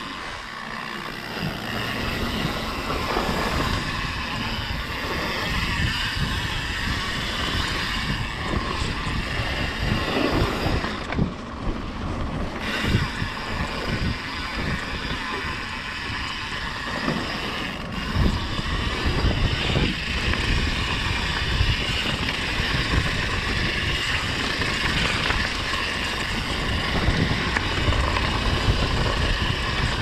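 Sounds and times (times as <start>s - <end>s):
mountain bike rattling downhill: 0.0s - 30.0s
wind rushing over microphone: 0.0s - 30.0s.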